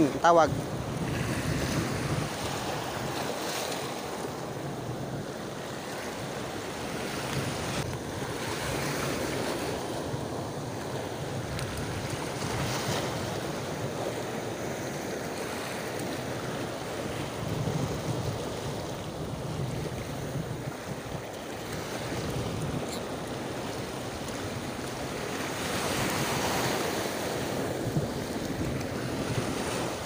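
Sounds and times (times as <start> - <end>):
choppy sea breaking around boat: 0.0 - 30.0
wind on microphone: 0.0 - 30.0.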